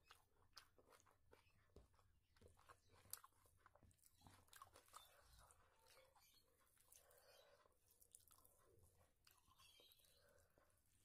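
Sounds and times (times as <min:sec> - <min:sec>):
person chewing with wet mouth smacks: 0:00.0 - 0:11.0.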